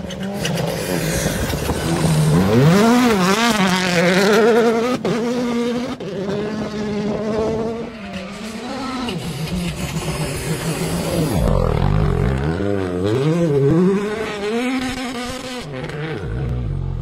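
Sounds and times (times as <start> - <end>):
rally car engine at full throttle: 0.0 - 17.0.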